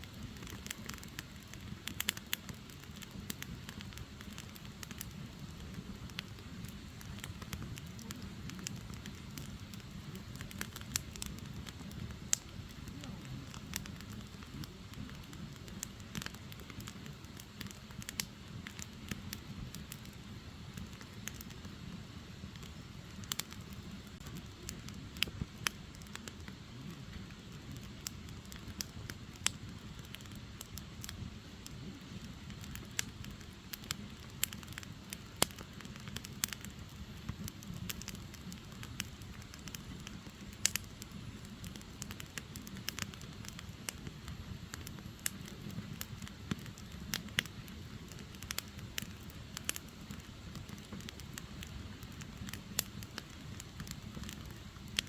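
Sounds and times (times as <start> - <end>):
firewood crackling and popping: 0.0 - 55.0
low rumble of flames: 0.0 - 55.0.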